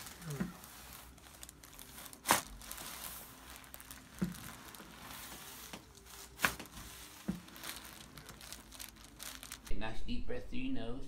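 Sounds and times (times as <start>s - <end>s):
faint rustling: 0.0s - 9.7s.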